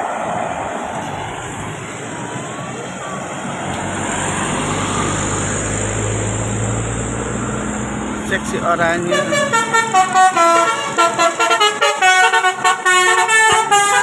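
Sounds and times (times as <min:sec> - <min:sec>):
heavy vehicle engine drone: 0:00.0 - 0:14.0
road traffic passing: 0:00.0 - 0:14.0.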